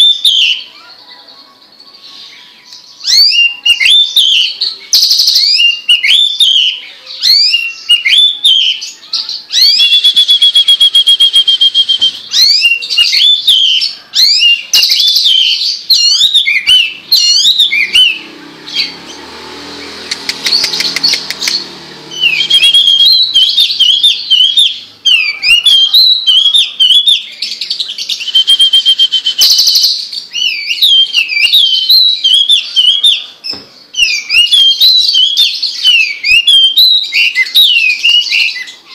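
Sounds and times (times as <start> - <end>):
bird singing whistles and trills: 0.0 - 0.8, 1.8 - 19.2, 19.9 - 38.9.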